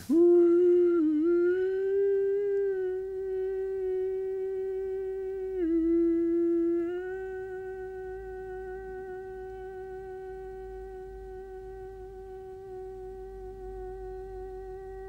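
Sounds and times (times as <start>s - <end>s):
man singing a long wordless note: 0.0s - 15.0s.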